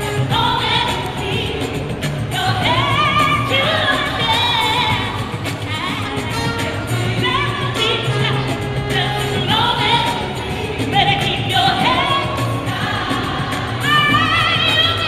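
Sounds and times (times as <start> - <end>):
band with steady bass: 0.0 - 15.0
gospel vocal group singing: 0.0 - 15.0.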